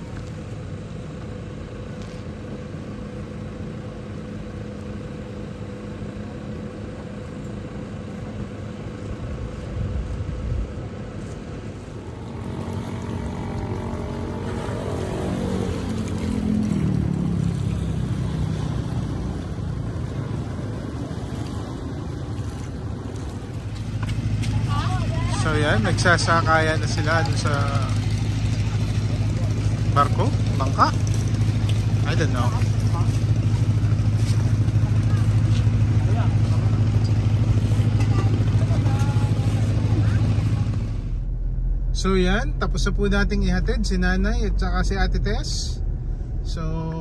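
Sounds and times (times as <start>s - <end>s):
engine idling hum: 0.0s - 47.0s
heavy engine rumble: 0.0s - 47.0s
engine passing by: 4.0s - 47.0s.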